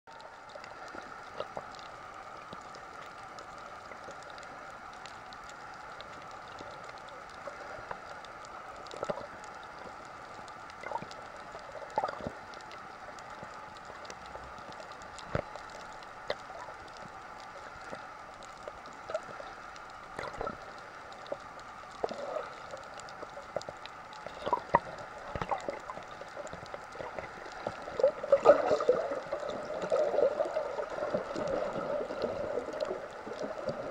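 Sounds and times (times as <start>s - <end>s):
gurgling water: 0.1s - 33.9s.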